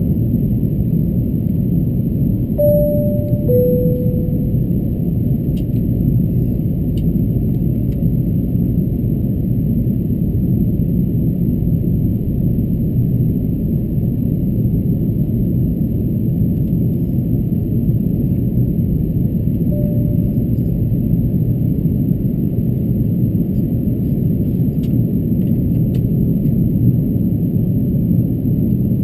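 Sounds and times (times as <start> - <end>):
aircraft cabin engine rumble: 0.0 - 29.0.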